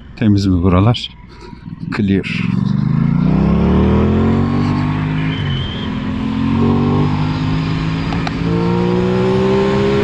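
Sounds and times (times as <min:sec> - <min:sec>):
motorcycle engine accelerating: 0:01.4 - 0:10.0.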